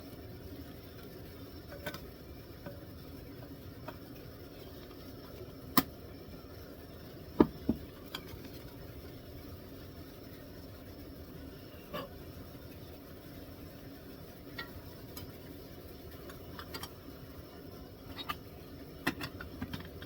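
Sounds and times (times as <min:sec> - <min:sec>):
faint steady background noise: 0:00.0 - 0:20.0.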